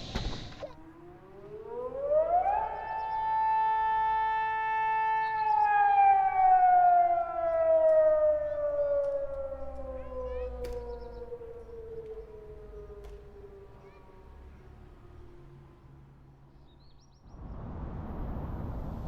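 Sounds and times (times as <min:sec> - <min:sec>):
warning siren wailing: 0:00.6 - 0:16.2.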